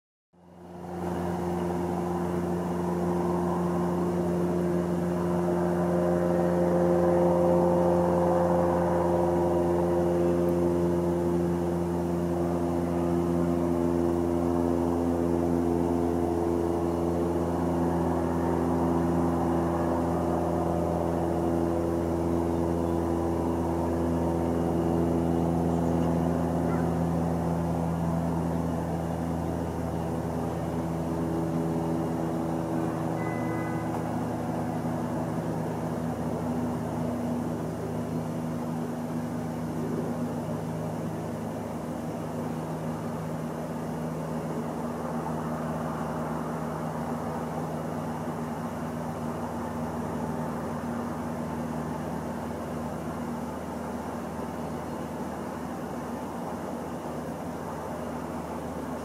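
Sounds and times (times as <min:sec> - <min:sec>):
engine humming steadily: 0:00.3 - 0:59.0.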